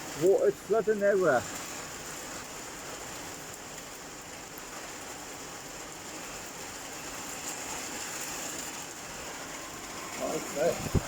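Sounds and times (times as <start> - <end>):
heavy rain: 0.0 - 11.0
rain drop ticks: 0.0 - 11.0.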